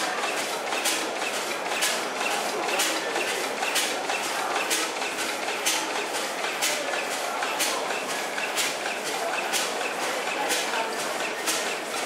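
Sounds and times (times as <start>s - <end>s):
steam engine mechanical clatter: 0.0s - 12.0s.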